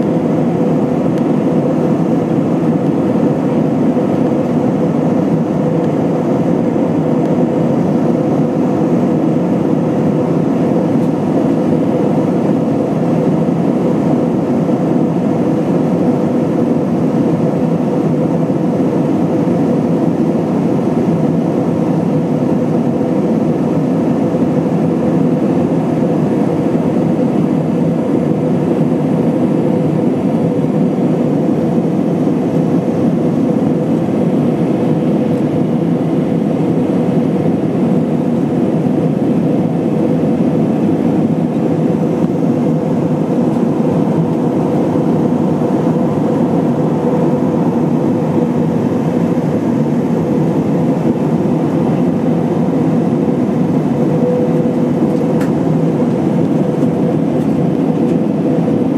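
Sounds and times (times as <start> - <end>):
airflow rush in aircraft cabin: 0.0 - 58.9
faint steady hum: 0.0 - 58.9
turbofan engines: 0.0 - 58.9.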